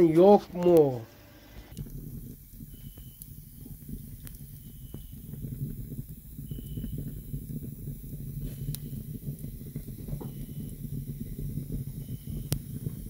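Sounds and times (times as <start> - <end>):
fire crackling: 0.0 - 13.0
fire flames rushing: 0.0 - 13.0.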